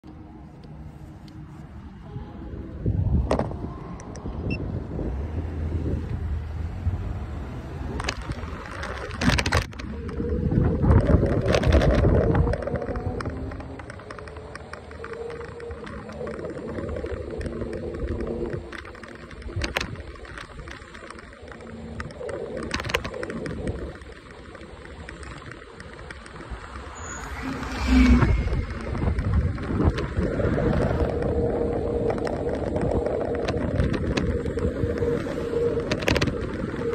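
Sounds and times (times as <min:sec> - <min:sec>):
wind and road noise: 0:00.0 - 0:36.9.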